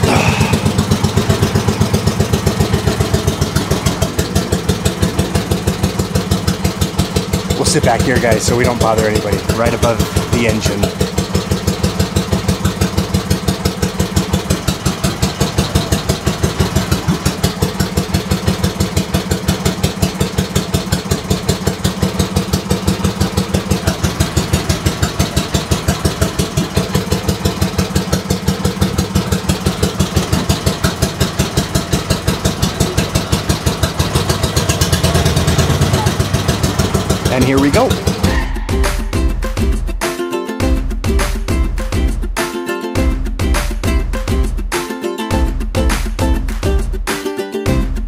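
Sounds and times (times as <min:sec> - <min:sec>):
boat engine chugging: 0:00.0 - 0:40.0.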